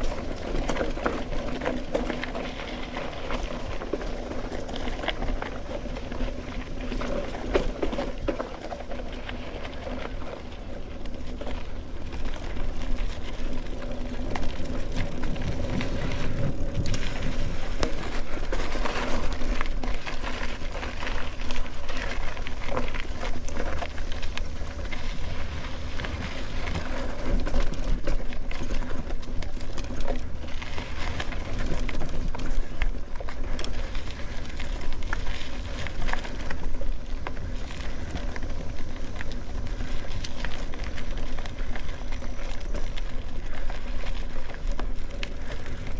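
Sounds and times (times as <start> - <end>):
bike rattling and clicking: 0.0 - 45.9
bike tyres on dirt trail: 0.0 - 45.9
wind rumble on microphone: 0.0 - 45.9.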